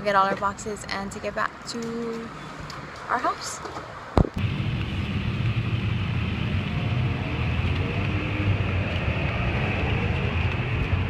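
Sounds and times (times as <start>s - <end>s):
road noise hiss: 0.0s - 11.0s
vehicle engine rumble: 0.0s - 11.0s.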